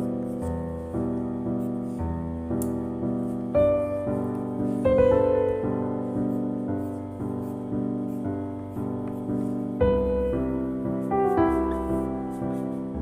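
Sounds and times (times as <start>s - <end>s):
slow soft piano music: 0.0s - 13.0s.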